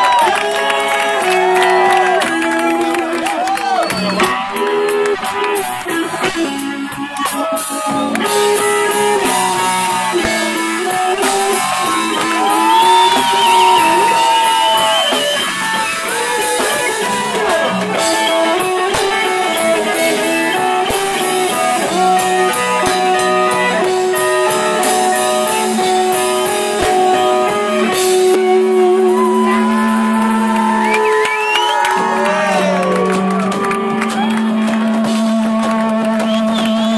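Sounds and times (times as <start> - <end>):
drum kit: 0.0 - 36.9
electric guitar: 0.0 - 36.9.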